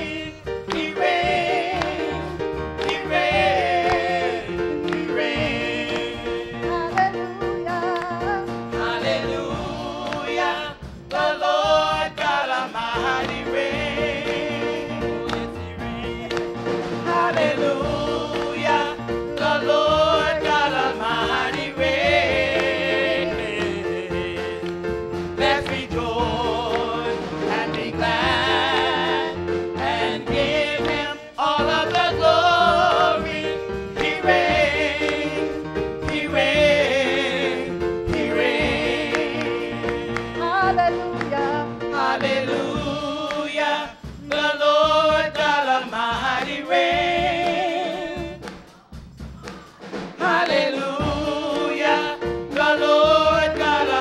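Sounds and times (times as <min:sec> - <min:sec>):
group singing worship song: 0:00.0 - 0:54.0.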